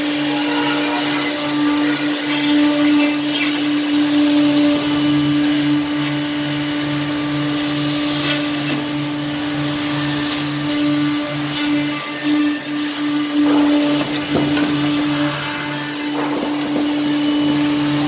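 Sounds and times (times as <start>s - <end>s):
saw motor humming: 0.0s - 18.0s.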